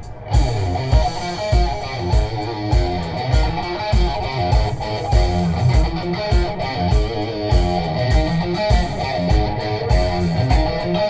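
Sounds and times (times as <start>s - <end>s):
bass guitar: 0.0s - 11.0s
electric guitar: 0.0s - 11.0s
steady drum beat: 0.0s - 11.0s.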